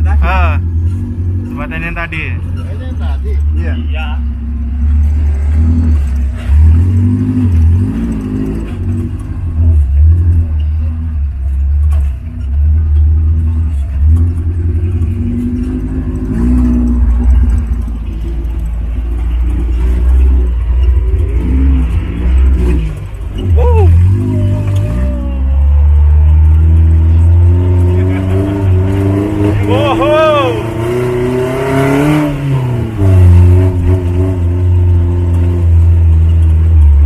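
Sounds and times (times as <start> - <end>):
off-road engine revving: 0.0 - 37.0.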